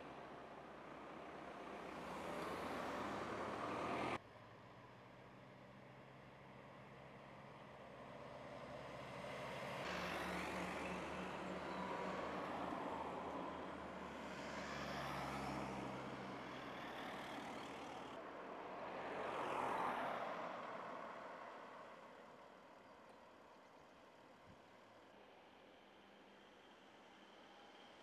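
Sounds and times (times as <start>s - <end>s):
vehicles passing: 0.0s - 22.8s.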